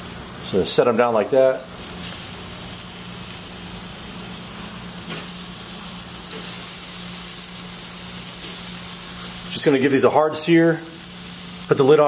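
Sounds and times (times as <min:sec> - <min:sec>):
steak sizzling on a grill: 0:00.0 - 0:12.0.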